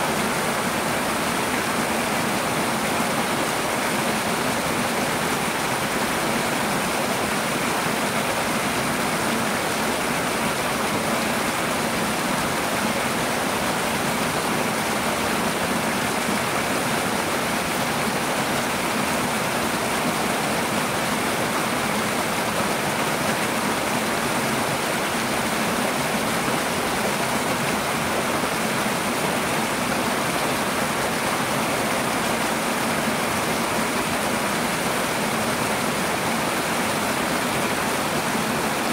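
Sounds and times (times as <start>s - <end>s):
waterfall splashing over rocks: 0.0s - 38.9s.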